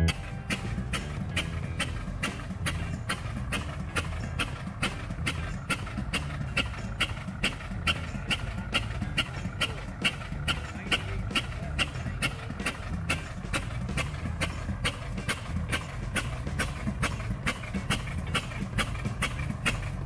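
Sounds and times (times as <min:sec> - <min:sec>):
old gas engine running slowly: 0:00.0 - 0:20.0.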